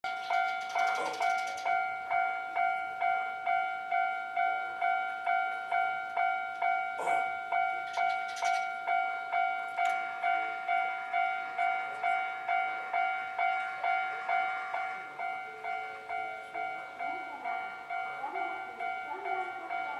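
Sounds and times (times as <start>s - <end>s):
level crossing bell ringing: 0.1s - 19.9s.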